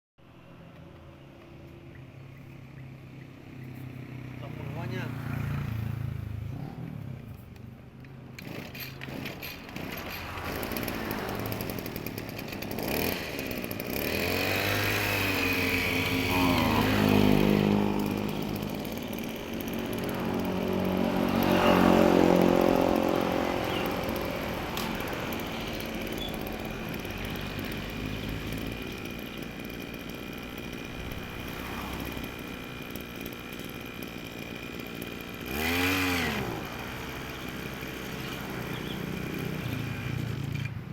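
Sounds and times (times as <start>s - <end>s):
small two-stroke engine revving: 3.0s - 7.5s, 8.3s - 40.9s.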